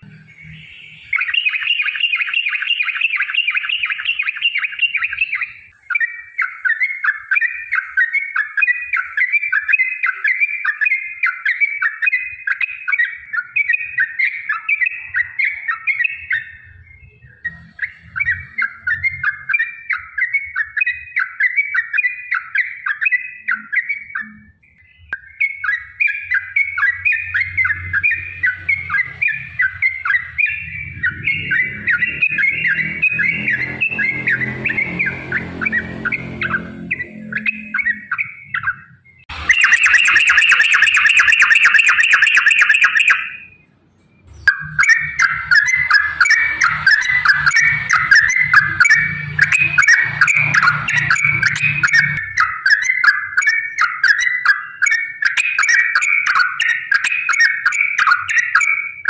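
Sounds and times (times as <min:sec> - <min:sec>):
bird chattering trill: 0:00.2 - 0:16.6, 0:25.3 - 0:43.6, 0:44.3 - 0:59.0.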